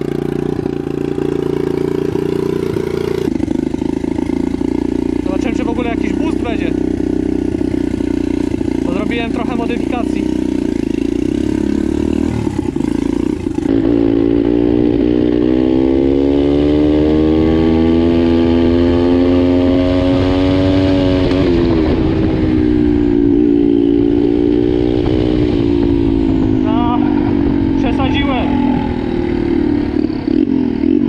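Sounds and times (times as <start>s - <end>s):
motorbike engine accelerating: 0.0s - 31.0s.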